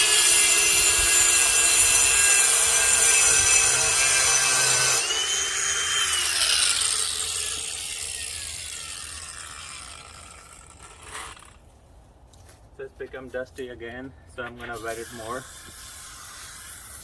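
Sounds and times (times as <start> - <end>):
angle grinder grinding concrete: 0.0 - 11.6, 14.6 - 17.0.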